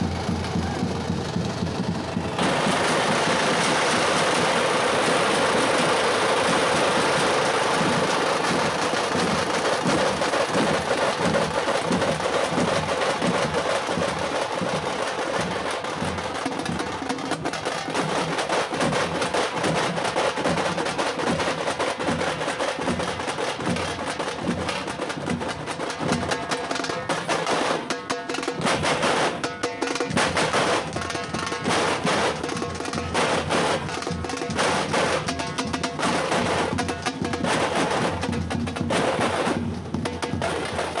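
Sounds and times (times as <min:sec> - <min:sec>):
frame drums beaten with sticks: 0:00.0 - 0:41.0.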